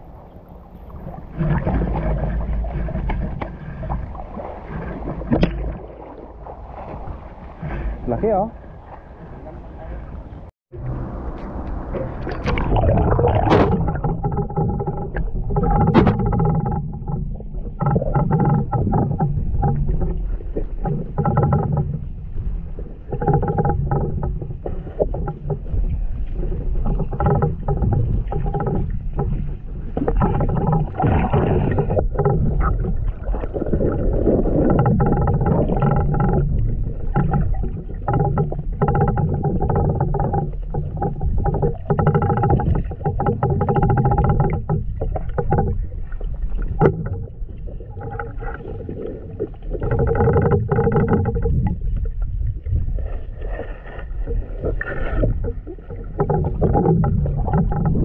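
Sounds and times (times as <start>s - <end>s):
hum-like underwater tones: 0.0s - 58.0s
underwater rumble of moving water: 0.0s - 58.0s.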